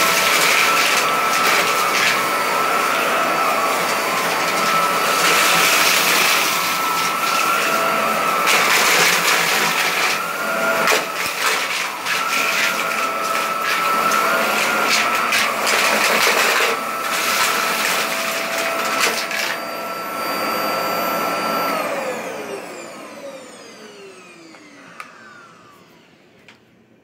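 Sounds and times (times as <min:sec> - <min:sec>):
vacuum cleaner motor whine: 0:00.0 - 0:27.0.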